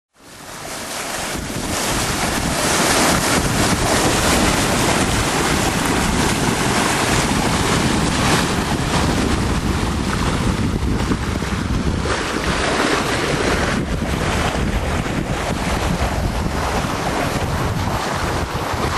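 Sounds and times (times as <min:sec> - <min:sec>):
water rushing along a hull: 0:00.1 - 0:18.9
wind noise on microphone: 0:00.2 - 0:18.9.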